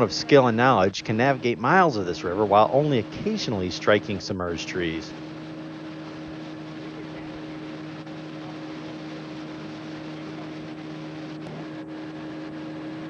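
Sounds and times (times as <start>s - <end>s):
boat motor humming: 0.0s - 13.0s
water noise: 0.0s - 13.0s.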